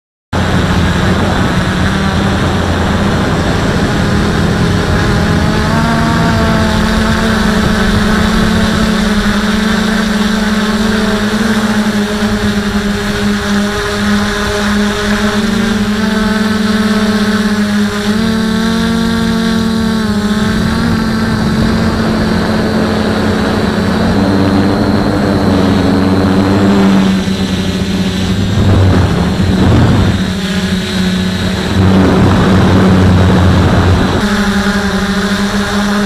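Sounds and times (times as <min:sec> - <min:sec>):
drone propellers droning: 0:00.3 - 0:36.0.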